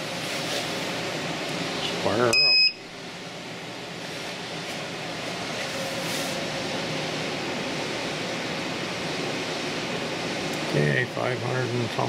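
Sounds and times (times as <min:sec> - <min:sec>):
faint electrical hum: 0:00.0 - 0:12.0
power inverter cooling fan whirring: 0:00.0 - 0:12.0.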